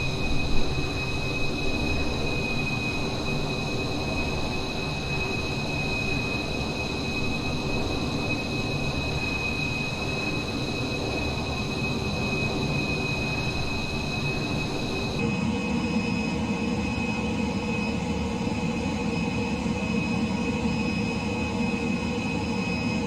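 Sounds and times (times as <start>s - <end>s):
high jet whine tones: 0.0s - 23.0s.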